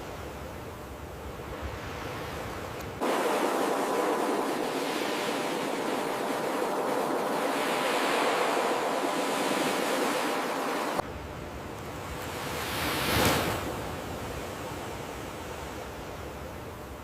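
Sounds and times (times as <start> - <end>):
ocean surf washing: 0.0 - 16.8.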